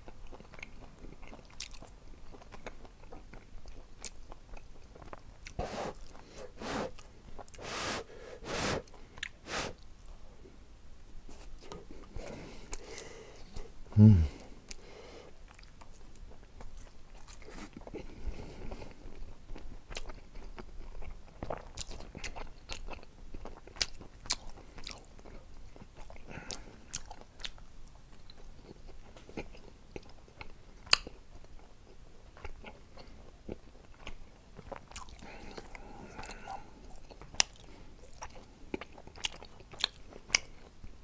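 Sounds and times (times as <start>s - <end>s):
man chewing: 0.0s - 10.2s, 11.3s - 41.0s.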